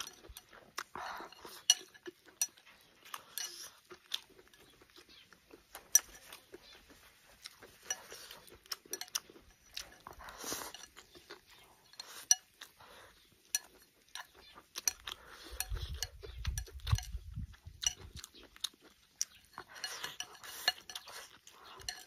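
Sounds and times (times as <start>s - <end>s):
eating noises: 0.0s - 22.0s.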